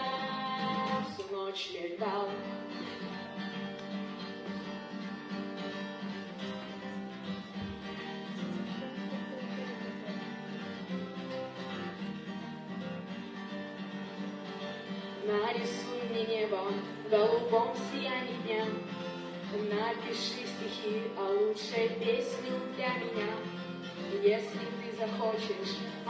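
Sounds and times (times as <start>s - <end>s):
guitar-led instrumental pop music: 0.0s - 26.0s.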